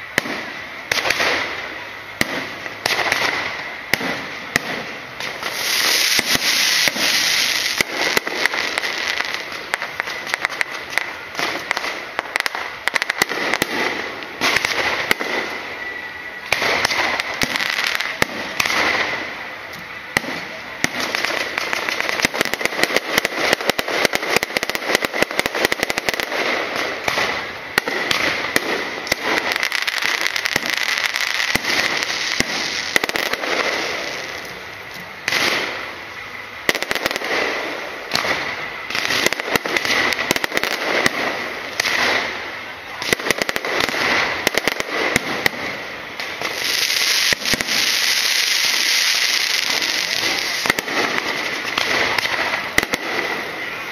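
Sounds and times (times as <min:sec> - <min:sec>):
firework fountains hissing: 0:00.0 - 0:53.9
fireworks crackling and popping: 0:00.0 - 0:53.9.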